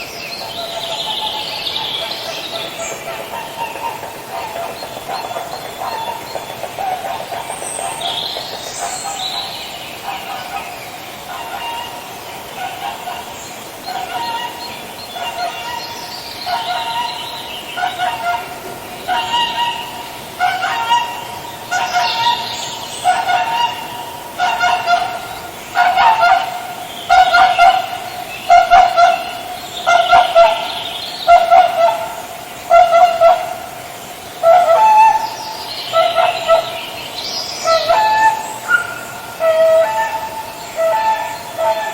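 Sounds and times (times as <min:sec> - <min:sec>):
swans honking: 0:00.0 - 0:41.9
higher bright swan call: 0:06.8 - 0:33.8, 0:34.4 - 0:41.9.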